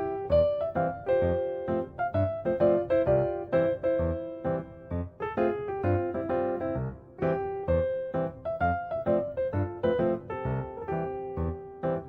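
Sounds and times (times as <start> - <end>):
bouncy piano music with beat: 0.0 - 12.0.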